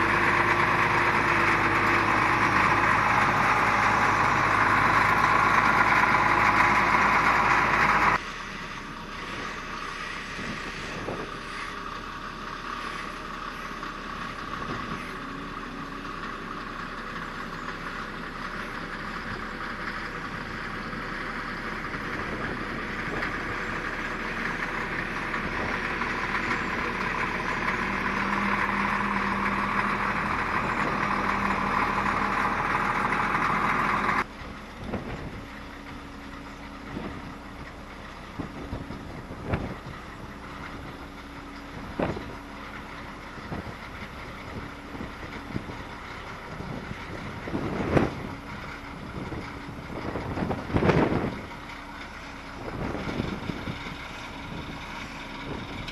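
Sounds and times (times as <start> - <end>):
grader diesel engine running: 0.0 - 55.9.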